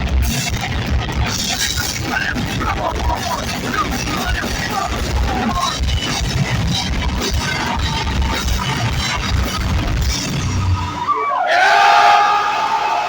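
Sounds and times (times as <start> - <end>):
heavy metal band playing live: 0.0 - 11.1.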